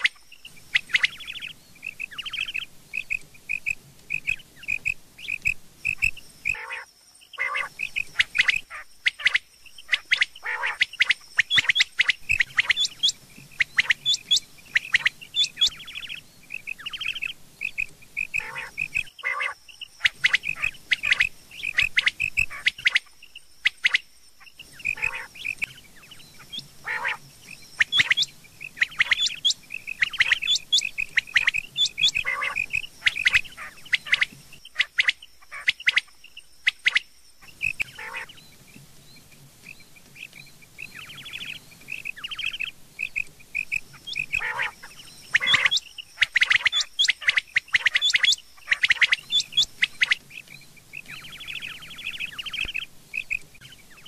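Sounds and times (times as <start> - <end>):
quail calling sharp repeated notes: 0.0 - 23.1, 23.7 - 25.8, 26.4 - 27.2, 27.8 - 38.4, 40.2 - 53.5.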